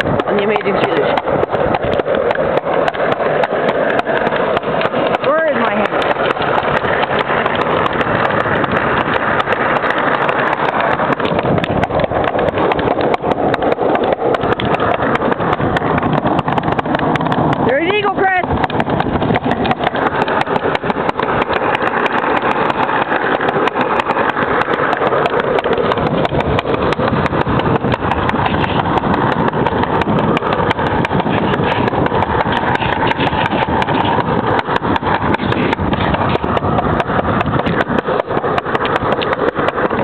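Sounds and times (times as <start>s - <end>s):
wheels rumbling on asphalt: 0.0s - 40.0s.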